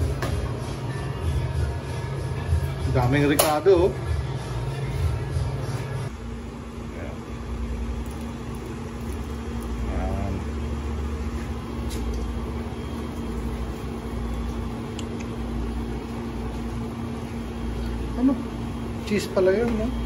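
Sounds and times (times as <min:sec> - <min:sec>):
kitchen machinery humming: 0:00.0 - 0:20.0.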